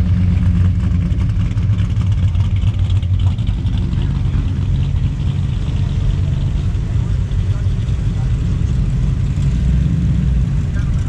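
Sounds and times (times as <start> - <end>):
car engine with deep exhaust rumble: 0.0 - 11.0.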